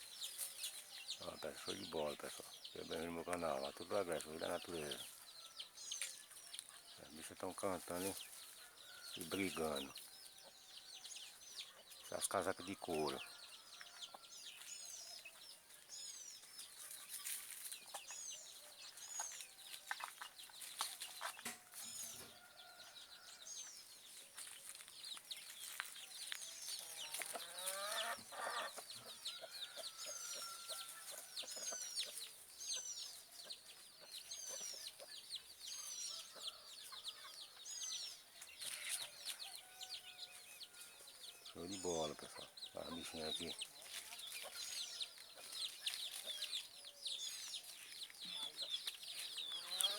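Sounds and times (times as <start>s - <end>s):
birds chattering calls: 0.0s - 49.9s.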